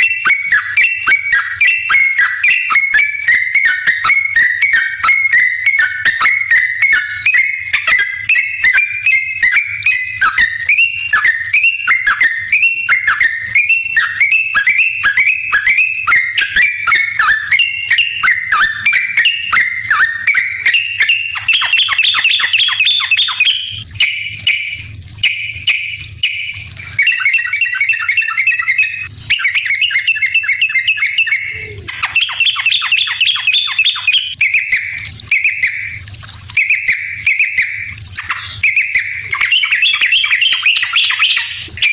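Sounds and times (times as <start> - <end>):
bird singing chattering whistles: 0.0 - 36.0, 36.6 - 41.9.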